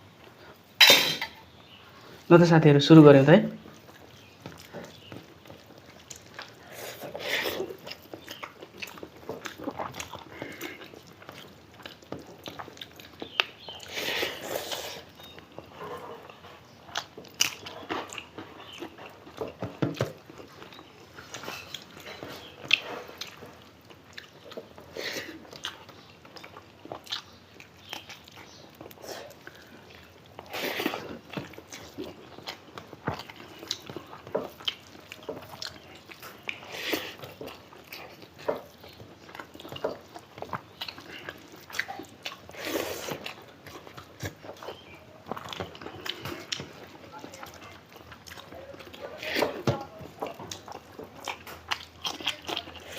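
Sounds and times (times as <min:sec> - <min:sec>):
people chewing food: 0:00.0 - 0:52.9.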